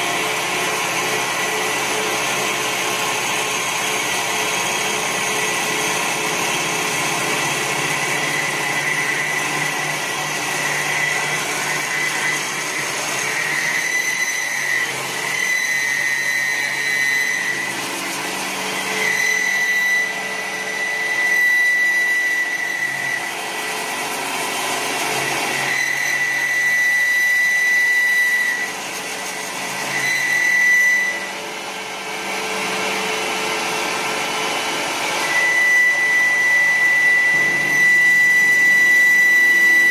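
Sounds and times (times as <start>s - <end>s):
high cutter whine: 0.0s - 39.9s
lathe machine hiss and hum: 0.0s - 39.9s.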